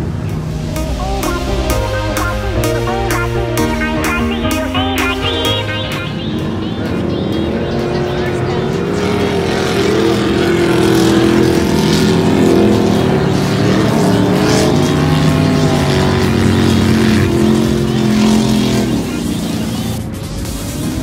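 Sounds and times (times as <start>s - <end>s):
racing car engines revving: 0.0s - 21.0s.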